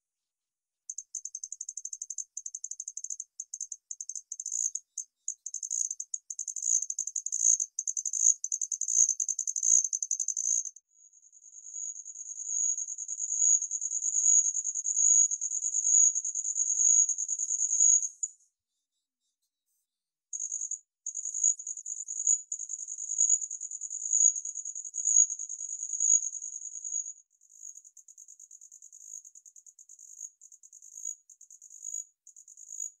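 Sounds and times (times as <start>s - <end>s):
cricket chirping and trilling: 0.9s - 18.3s, 20.3s - 33.0s.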